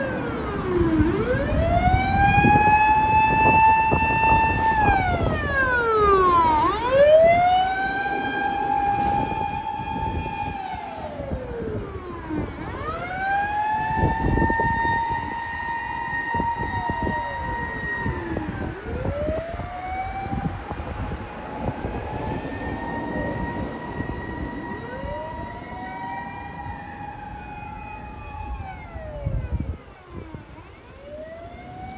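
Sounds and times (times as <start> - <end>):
mechanical motor siren wailing: 0.2 - 31.9.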